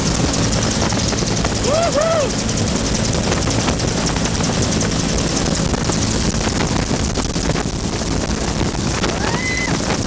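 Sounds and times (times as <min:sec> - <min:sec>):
helicopter rotor and turbine drone: 0:00.0 - 0:10.0.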